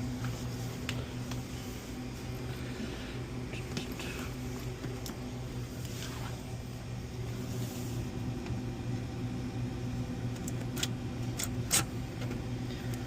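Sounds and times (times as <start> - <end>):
freezer electrical hum: 0.0 - 13.0.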